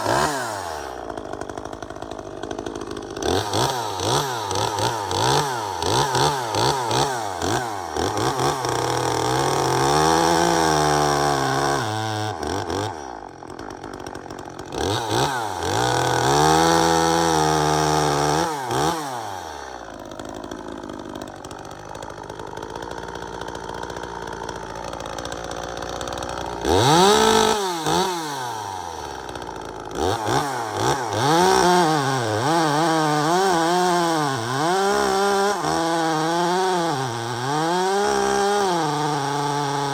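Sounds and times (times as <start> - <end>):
chainsaw revving through cuts: 0.0 - 39.9.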